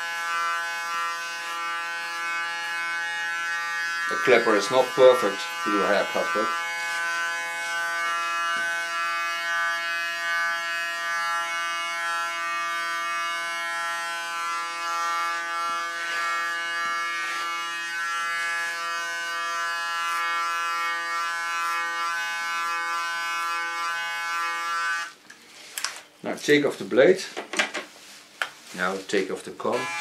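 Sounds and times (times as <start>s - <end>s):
electric hair clipper buzzing: 0.0s - 25.2s, 29.7s - 30.0s.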